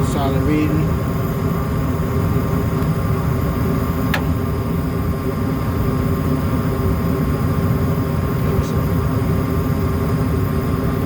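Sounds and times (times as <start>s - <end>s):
gas furnace rumbling: 0.0s - 11.0s.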